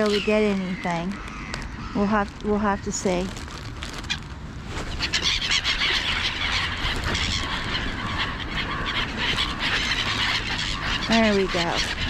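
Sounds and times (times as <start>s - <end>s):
gulls calling: 0.0s - 3.3s, 3.9s - 12.0s.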